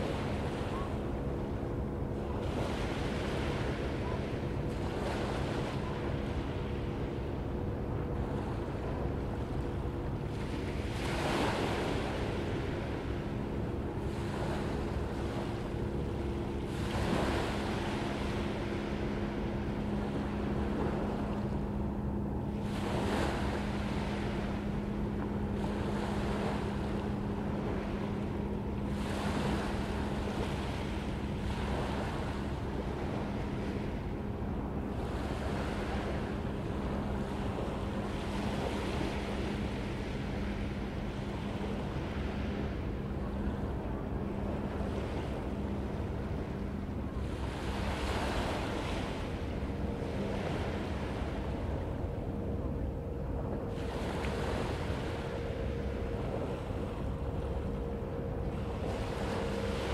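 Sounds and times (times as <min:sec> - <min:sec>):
ocean waves breaking: 0:00.0 - 0:59.9
steady low hum: 0:00.0 - 0:59.9.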